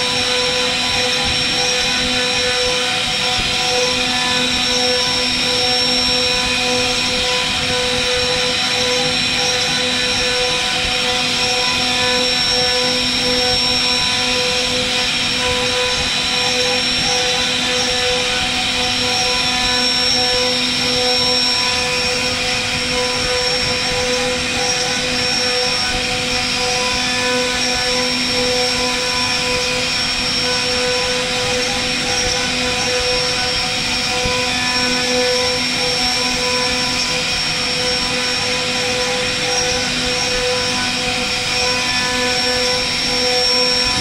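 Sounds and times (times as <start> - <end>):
router spindle whining: 0.0 - 44.0.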